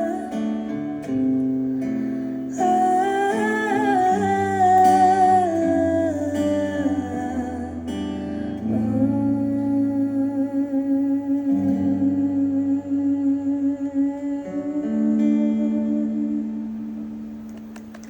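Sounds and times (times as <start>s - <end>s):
woman singing wordless notes: 0.0s - 17.5s
acoustic guitar chords: 0.0s - 18.0s.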